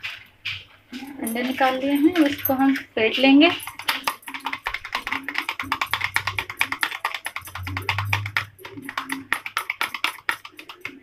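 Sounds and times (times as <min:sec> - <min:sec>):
fork beating eggs in plastic bowl: 0:00.0 - 0:11.0.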